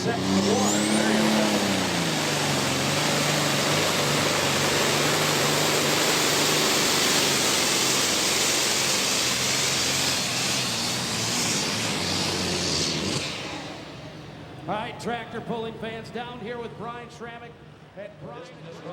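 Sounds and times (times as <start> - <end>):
diesel tractor engine under load: 0.0 - 18.9.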